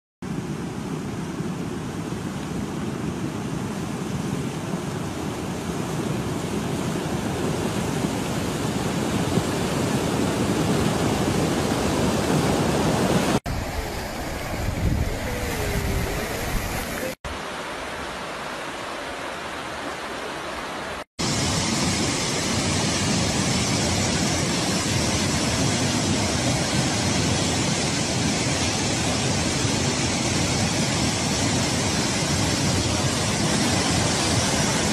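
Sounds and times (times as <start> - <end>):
flood water rushing: 0.3 - 34.9
torrent pouring down rocky slope: 5.5 - 19.4, 20.0 - 34.9.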